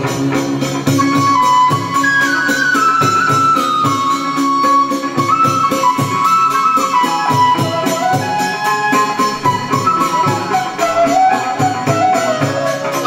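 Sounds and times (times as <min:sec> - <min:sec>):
bamboo flute melody: 0:00.0 - 0:13.0
moon lute: 0:00.0 - 0:13.0
percussion beat: 0:00.0 - 0:13.0.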